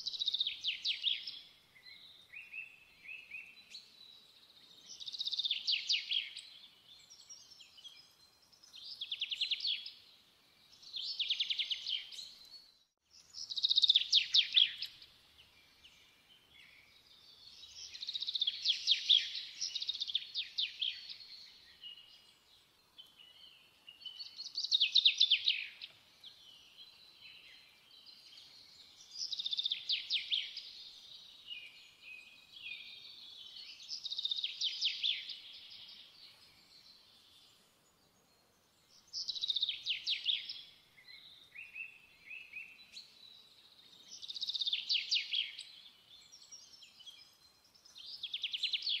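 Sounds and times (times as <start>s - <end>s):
quiet bird twittering: 0.0s - 49.0s.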